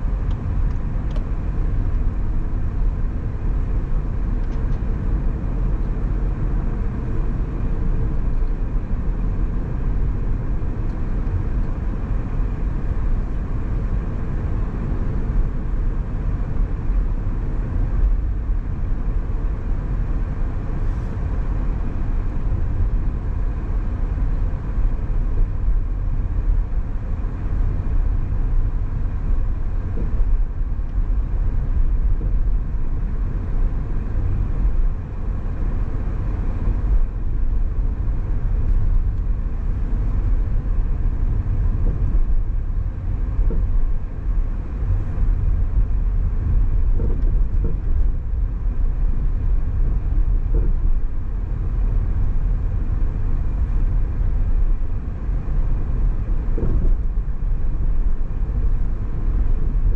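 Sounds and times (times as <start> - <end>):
car driving on road rumble: 0.0 - 59.9.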